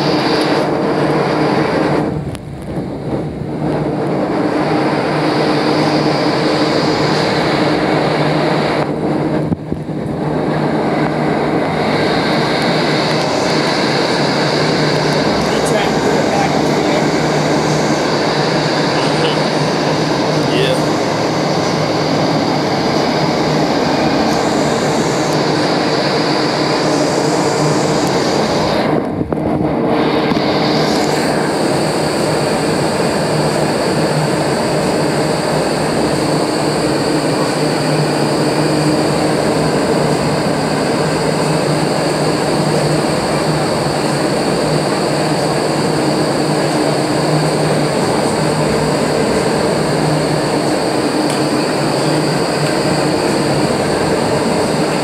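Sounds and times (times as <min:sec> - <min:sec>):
loud rush of air: 0:00.0 - 0:55.0
low hum: 0:00.0 - 0:55.0.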